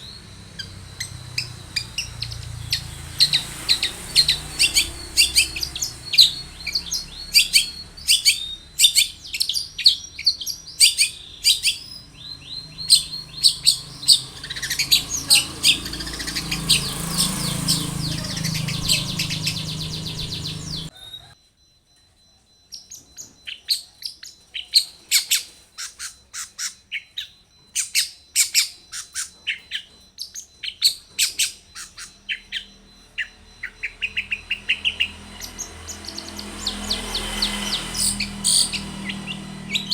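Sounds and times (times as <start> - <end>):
bird singing sharp chirps: 0.0 - 21.4, 22.8 - 39.9.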